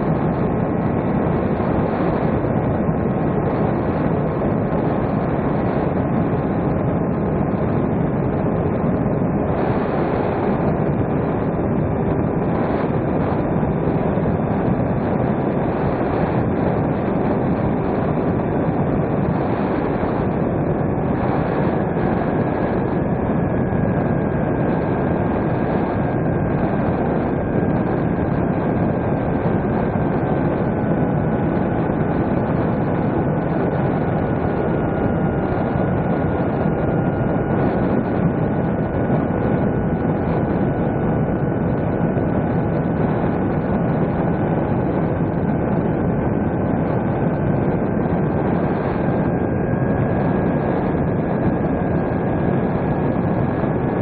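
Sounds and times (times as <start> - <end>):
faint thin whine: 0.0 - 54.0
propeller and motor noise: 0.0 - 54.0.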